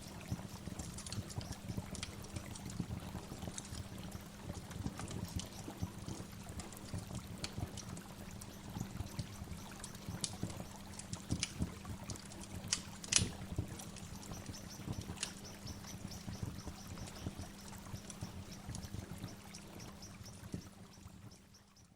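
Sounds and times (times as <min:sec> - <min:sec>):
waterfall splashing and trickling: 0:00.0 - 0:21.6.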